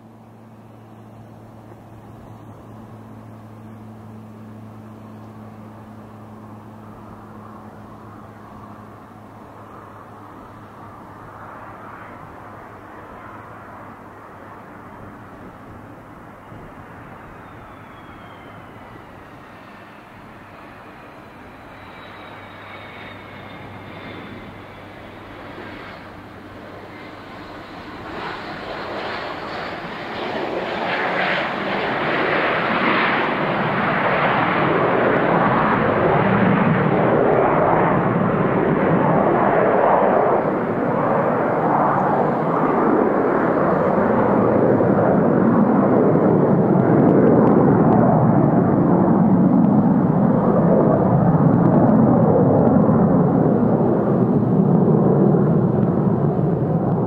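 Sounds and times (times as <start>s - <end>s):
jet engines roaring at takeoff: 0.0s - 57.0s
jet rumble climbing away: 0.0s - 57.0s.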